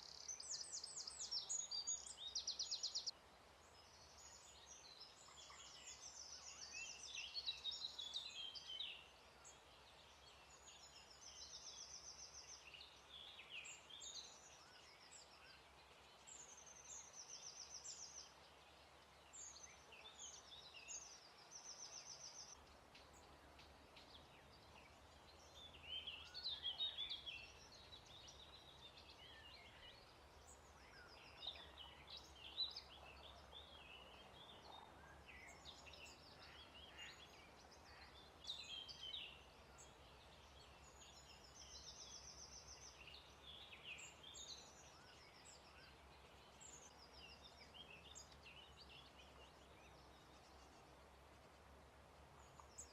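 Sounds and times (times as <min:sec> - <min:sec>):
faint steady background noise: 0:00.0 - 0:52.9
songbirds singing: 0:00.0 - 0:52.9.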